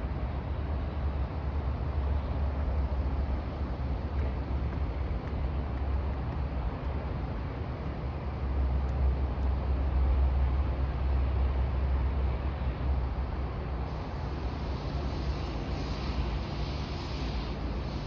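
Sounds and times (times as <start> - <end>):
outdoor noise: 0.0 - 18.0
ship engine drone: 0.0 - 18.0.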